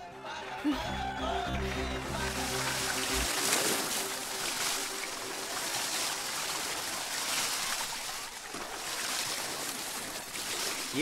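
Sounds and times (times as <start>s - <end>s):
water rushing down slide: 1.7s - 11.0s.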